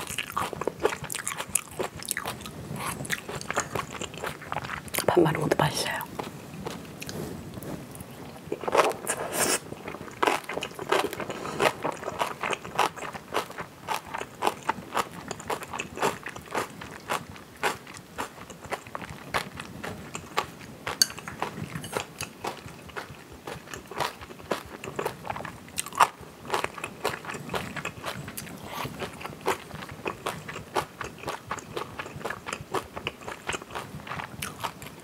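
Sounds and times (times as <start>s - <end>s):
wet crunchy chewing: 0.0s - 5.0s, 8.5s - 35.0s.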